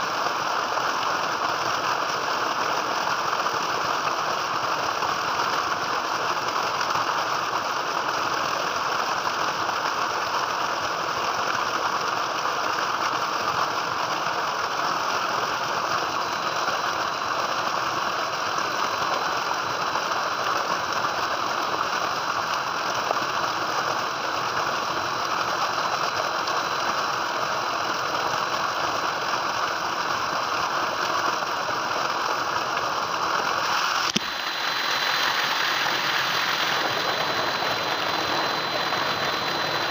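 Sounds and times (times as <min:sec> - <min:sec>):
water gushing into tank: 0:00.0 - 0:39.9.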